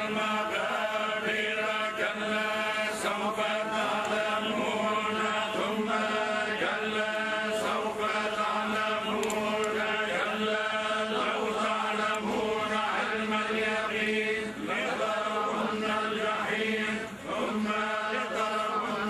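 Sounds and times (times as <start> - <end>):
man chanting recitation: 0.0 - 19.0.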